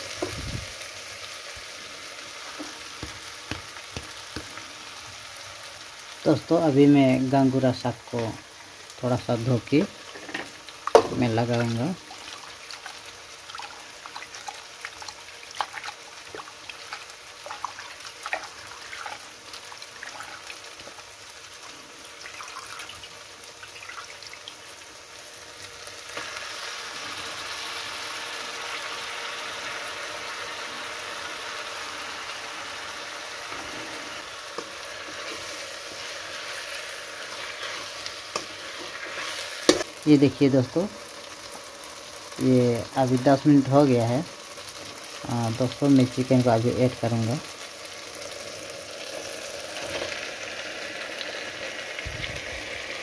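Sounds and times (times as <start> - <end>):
sizzling in pan: 0.0 - 53.0.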